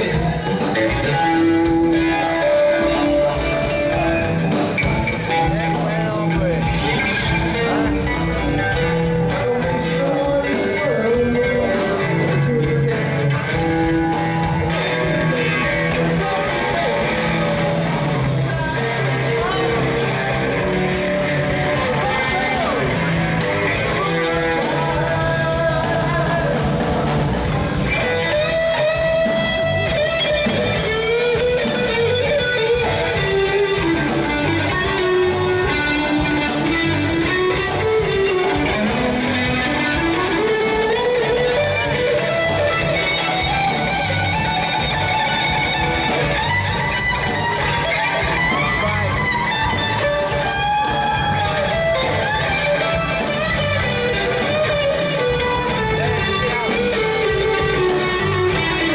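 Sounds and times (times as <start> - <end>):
guitar music with steady beat: 0.0 - 58.9.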